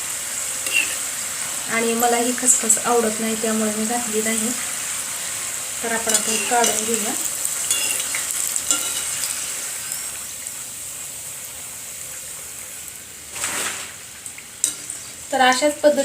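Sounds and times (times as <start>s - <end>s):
snacks deep-frying in hot oil: 0.0s - 16.0s.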